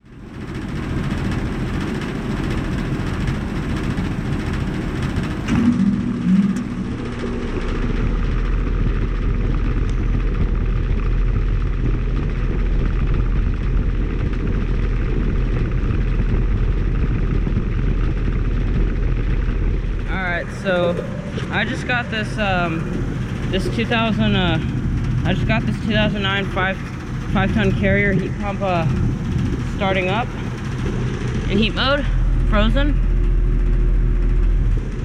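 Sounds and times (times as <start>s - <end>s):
deep low hum: 0.0s - 35.0s
heat pump fan running: 0.0s - 35.0s.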